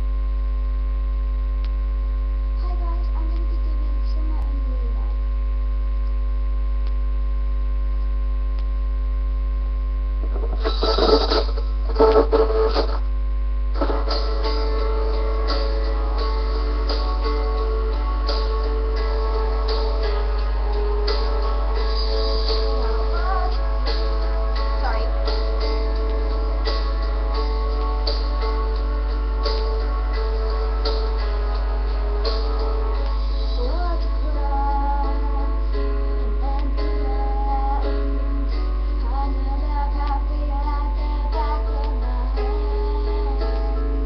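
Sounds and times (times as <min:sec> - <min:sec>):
electrical mains hum: 0:00.0 - 0:44.0
loud irregular noise: 0:00.0 - 0:44.0
recorded music playing: 0:05.8 - 0:44.0.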